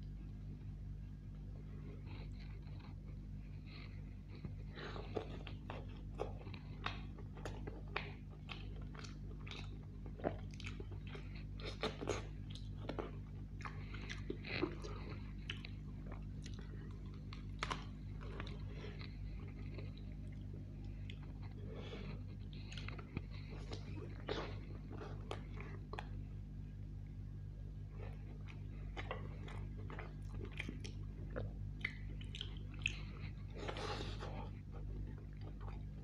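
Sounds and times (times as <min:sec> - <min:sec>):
chewing and biting food: 0:00.0 - 0:36.0
steady low hum: 0:00.0 - 0:36.0.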